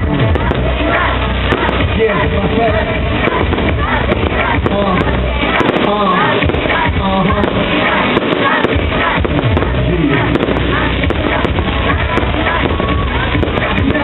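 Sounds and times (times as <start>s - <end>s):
live pop music with singing: 0.0s - 14.0s.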